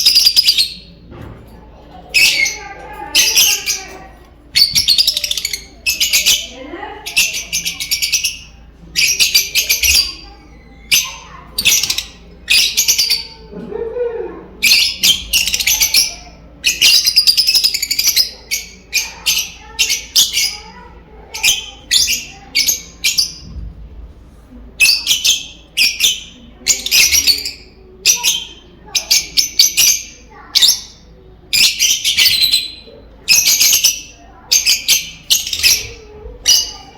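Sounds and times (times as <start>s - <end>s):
lovebirds chirping: 2.0s - 13.5s, 14.6s - 23.8s, 24.5s - 36.9s.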